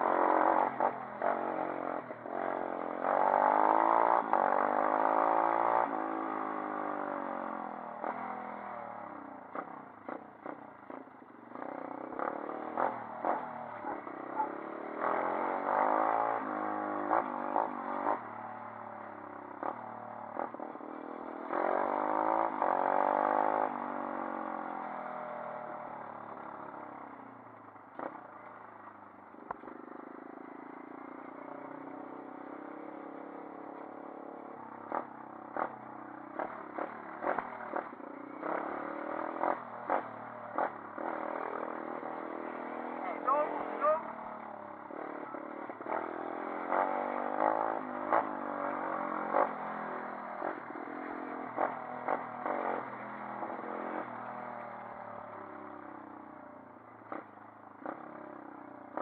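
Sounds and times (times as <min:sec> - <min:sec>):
motorbike engine revving: 0:00.0 - 0:27.0, 0:29.6 - 0:56.1, 0:57.0 - 0:59.0.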